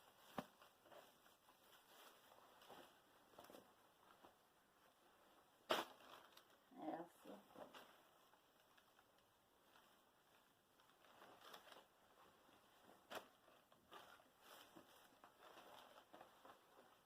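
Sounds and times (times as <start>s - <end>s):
clothes rustling: 0.0s - 17.0s.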